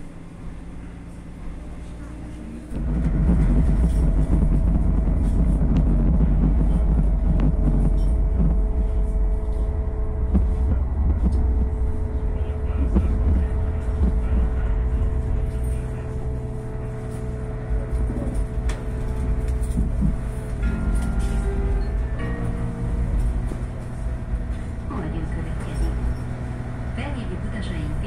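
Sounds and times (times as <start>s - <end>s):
tram rumbling along track: 0.0s - 28.0s
whining drive tones: 2.7s - 28.0s.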